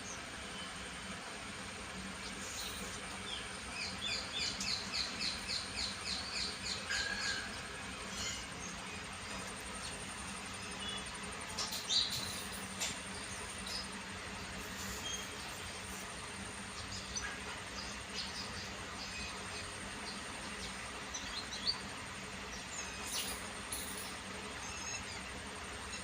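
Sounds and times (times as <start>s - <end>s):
faint background hiss and hum: 0.0s - 26.0s.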